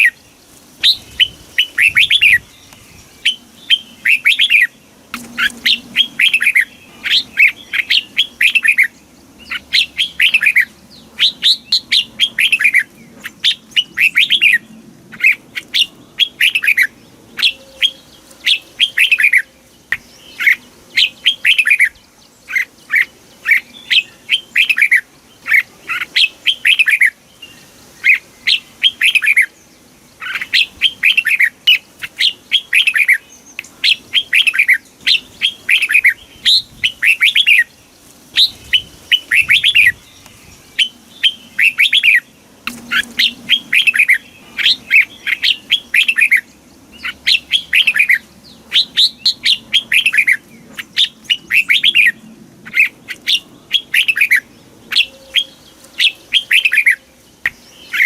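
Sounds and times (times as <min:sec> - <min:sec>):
bulbul singing: 0:00.8 - 0:29.6, 0:30.2 - 0:37.8, 0:38.4 - 0:58.0.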